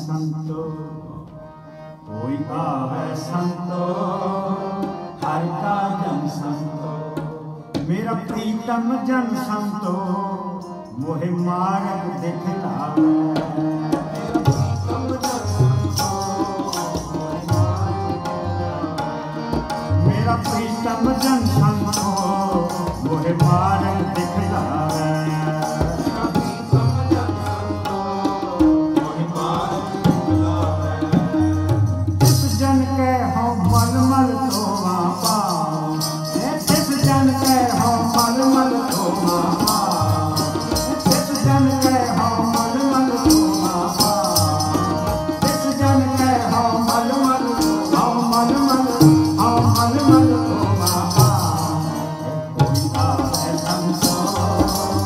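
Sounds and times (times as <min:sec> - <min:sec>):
harmoniums playing melody: 0:00.0 - 0:55.0
tabla: 0:00.0 - 0:55.0.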